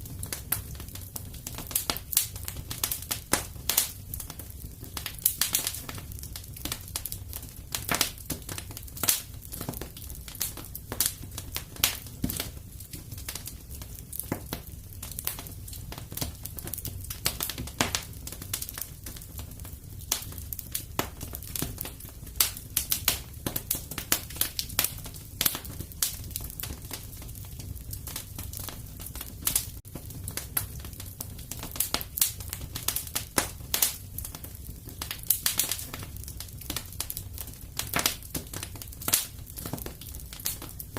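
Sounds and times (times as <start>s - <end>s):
fireplace crackling: 0.0s - 40.9s.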